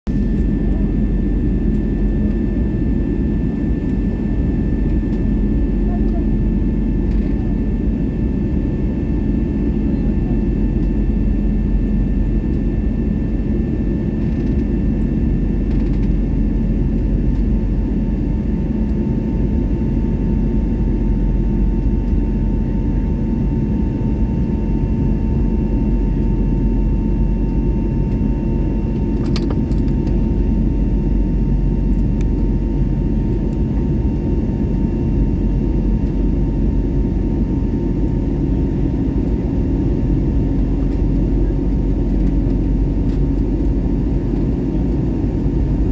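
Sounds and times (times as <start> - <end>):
airplane engine drone: 0.1 - 45.9.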